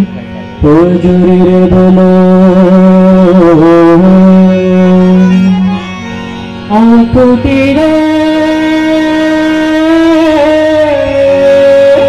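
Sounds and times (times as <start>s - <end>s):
folk music with sustained notes: 0.0s - 12.0s.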